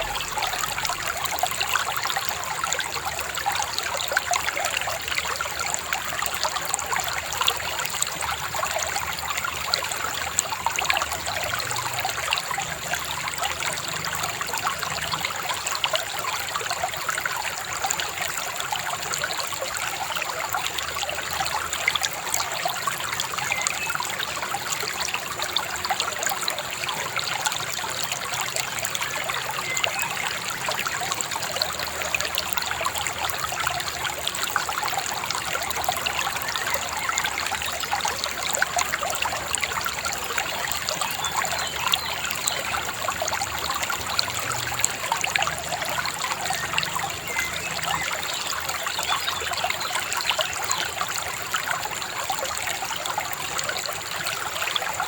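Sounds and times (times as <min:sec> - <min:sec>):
river babbling over stones: 0:00.0 - 0:55.0.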